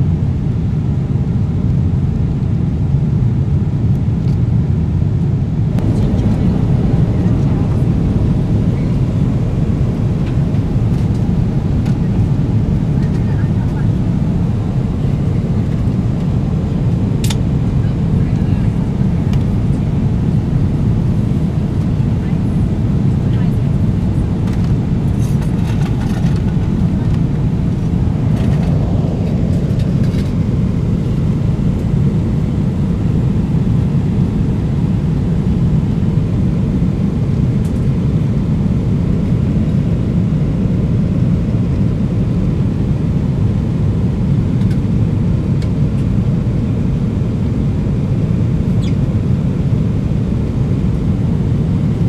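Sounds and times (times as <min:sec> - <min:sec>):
airplane cabin engine rumble: 0:00.0 - 0:52.0.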